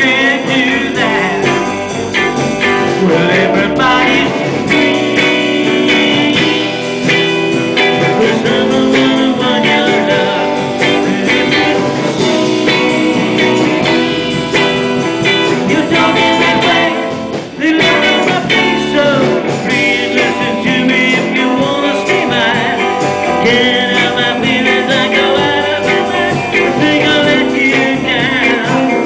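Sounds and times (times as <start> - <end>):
drums: 0.0 - 29.0
electric guitars: 0.0 - 29.0
lead singer: 0.0 - 29.0.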